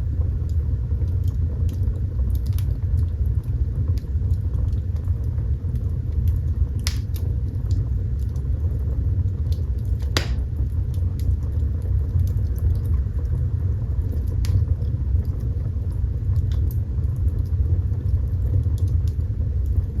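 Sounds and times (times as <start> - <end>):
fire rumbling: 0.0 - 20.0
fire crackling and popping: 0.2 - 20.0.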